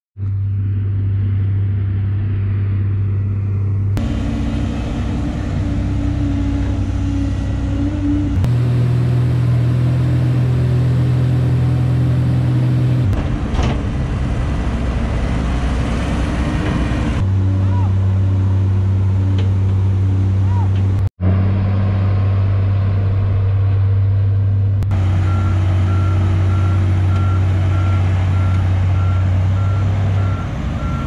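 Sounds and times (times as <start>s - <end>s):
heavy diesel engines running: 0.2s - 31.0s.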